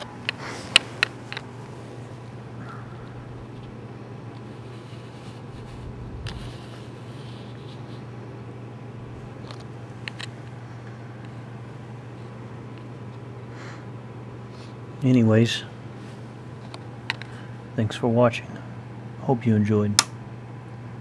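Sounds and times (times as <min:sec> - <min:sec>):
fan whirring rush: 0:00.0 - 0:21.0
oscilloscope low hum: 0:00.0 - 0:21.0.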